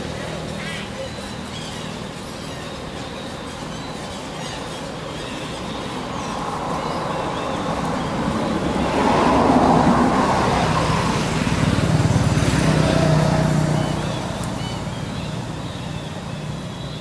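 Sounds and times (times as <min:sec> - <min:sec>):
passing vehicle engine and road noise: 0:00.0 - 0:17.0.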